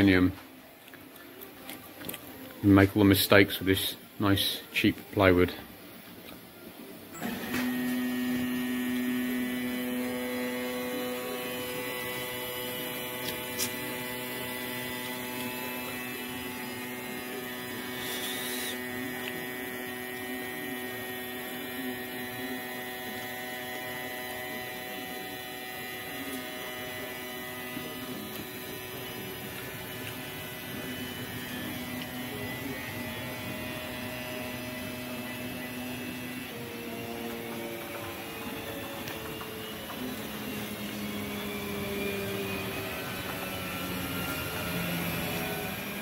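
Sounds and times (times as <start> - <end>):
machine drive motors humming: 0.0 - 46.0.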